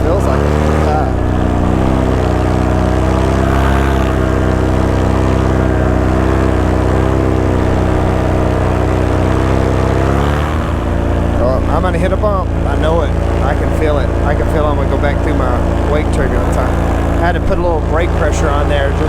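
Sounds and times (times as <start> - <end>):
paramotor engine and propeller: 0.0 - 19.0.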